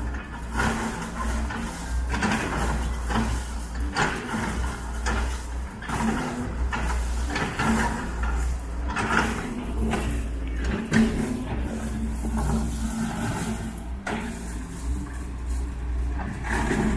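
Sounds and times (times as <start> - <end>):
concrete rubble crunching and scraping: 0.0 - 16.9
excavator diesel engine running: 0.0 - 16.9.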